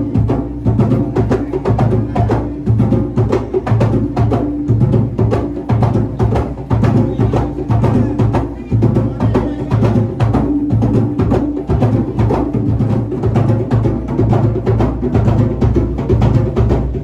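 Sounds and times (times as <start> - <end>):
music with drums: 0.0 - 17.0.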